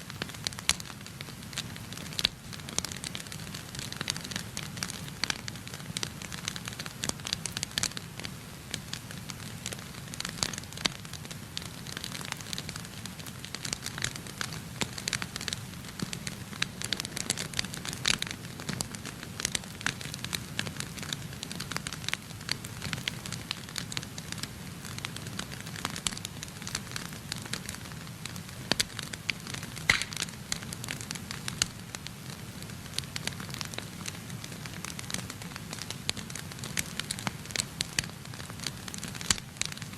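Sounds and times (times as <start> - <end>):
fire low rumble: 0.0 - 39.9
wood fire crackling and popping: 0.0 - 39.9.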